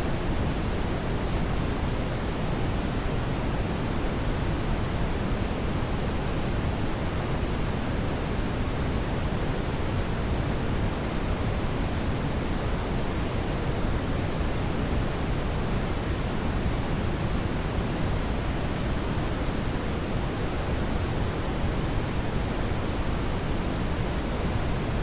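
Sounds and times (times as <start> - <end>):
brown noise hiss: 0.0 - 25.0.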